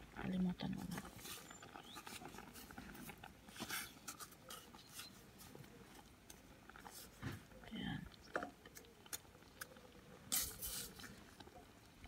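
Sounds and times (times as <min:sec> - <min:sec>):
wooden spoon stirring in metal pot: 0:00.0 - 0:11.8.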